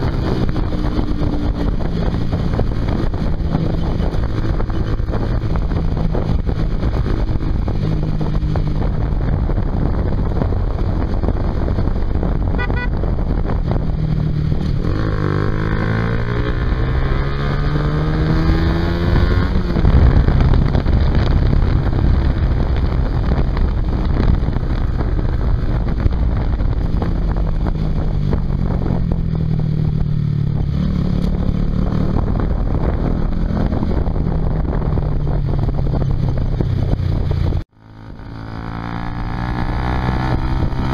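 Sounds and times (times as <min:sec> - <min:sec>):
motorcycle engine revving: 0:00.0 - 0:40.9
wind noise on microphone: 0:00.0 - 0:40.9.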